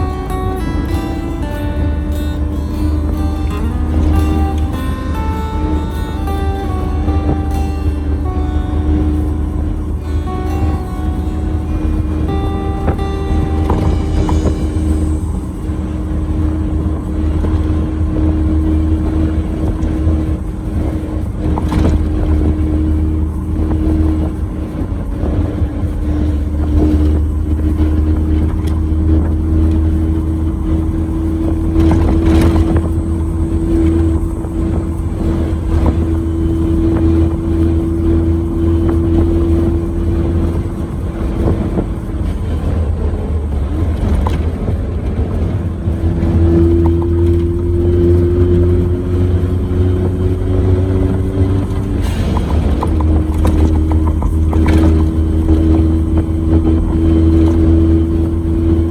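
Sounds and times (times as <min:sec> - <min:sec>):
car tyre road rumble: 0:00.0 - 0:58.9.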